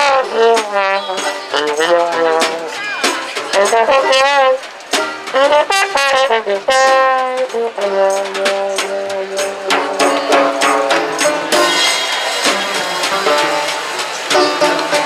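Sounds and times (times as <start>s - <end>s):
muted trombone: 0.0s - 15.0s
strummed banjo chords: 0.0s - 15.0s.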